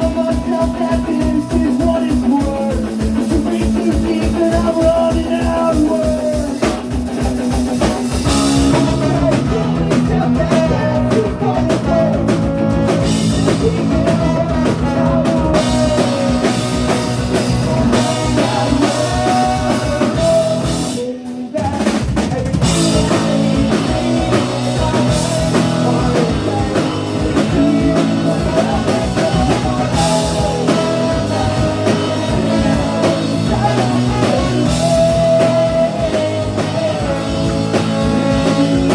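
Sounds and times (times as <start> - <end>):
fast drum kit: 0.0 - 38.9
guitars: 0.0 - 38.9
ska punk band playing live: 0.0 - 38.9.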